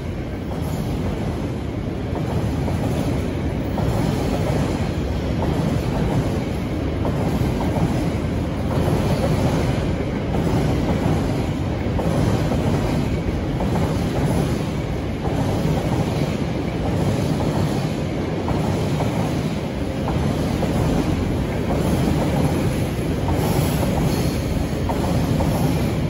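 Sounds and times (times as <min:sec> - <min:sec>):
train wheels running on rails: 0:00.0 - 0:26.0
clatter over rail joints: 0:02.2 - 0:26.0.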